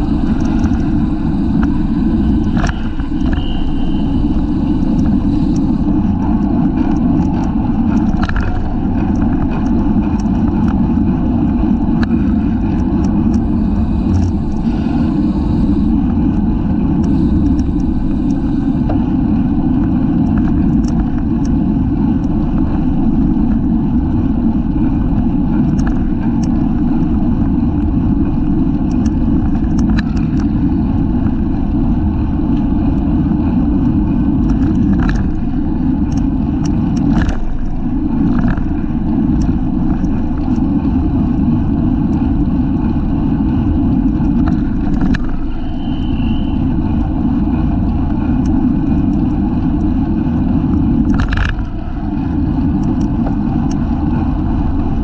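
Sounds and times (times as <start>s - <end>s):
faint clicks and ticks: 0.0s - 55.0s
wind rumble on microphone: 0.0s - 55.0s.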